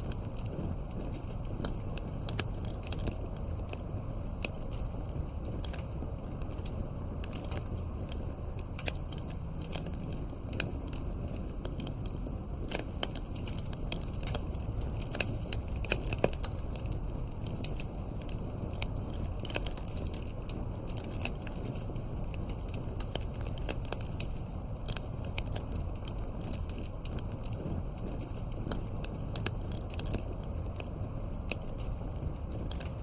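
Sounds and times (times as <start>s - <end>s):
burning wood crackling and popping: 0.0s - 33.0s
rumble of flames: 0.0s - 33.0s.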